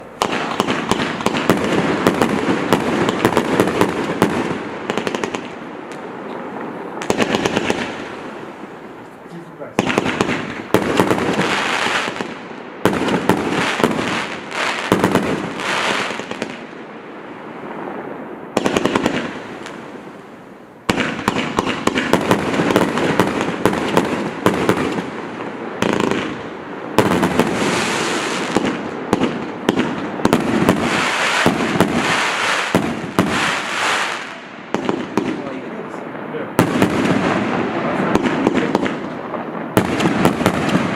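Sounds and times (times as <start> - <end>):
fireworks firing and crackling: 0.0 - 40.9.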